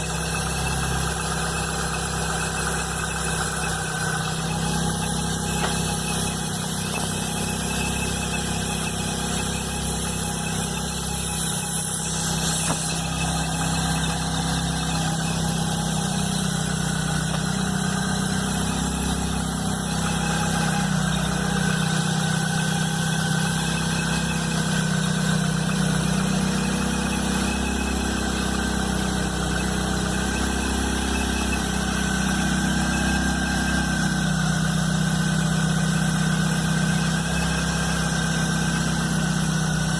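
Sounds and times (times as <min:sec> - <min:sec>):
engine idling with high whine: 0:00.0 - 0:39.9.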